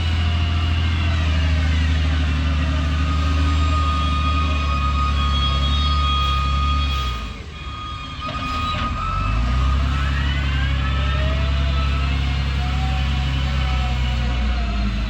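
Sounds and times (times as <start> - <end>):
heavy diesel engine revving: 0.0 - 7.6, 8.3 - 15.0.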